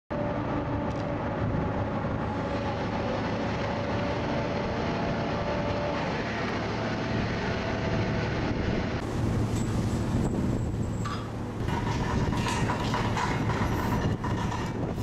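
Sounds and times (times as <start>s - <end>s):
winch machinery droning: 0.1s - 15.0s.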